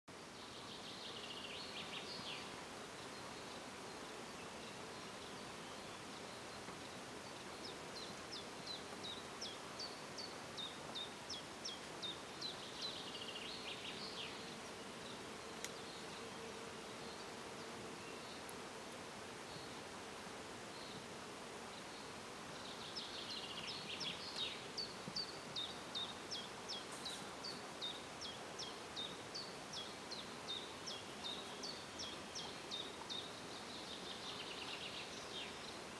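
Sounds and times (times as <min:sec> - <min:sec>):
songbirds singing: 0:00.1 - 0:20.0, 0:20.6 - 0:35.9
insect hum: 0:00.1 - 0:35.9
steady hiss: 0:00.1 - 0:35.9.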